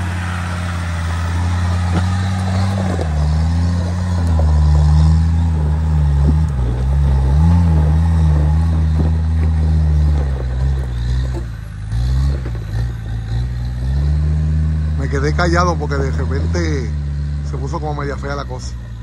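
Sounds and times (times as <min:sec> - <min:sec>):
off-road vehicle engine under load: 0:00.0 - 0:19.0.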